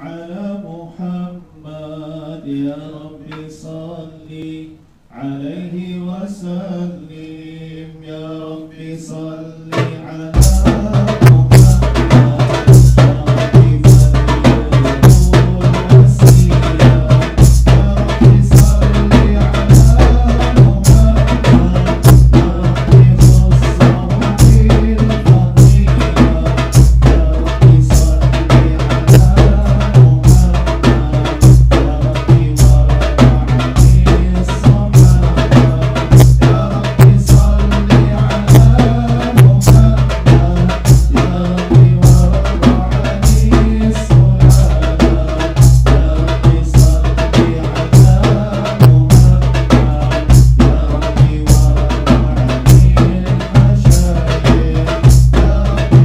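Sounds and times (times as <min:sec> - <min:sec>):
men chanting: 0:00.0 - 0:56.0
frame drums beating: 0:09.7 - 0:56.0.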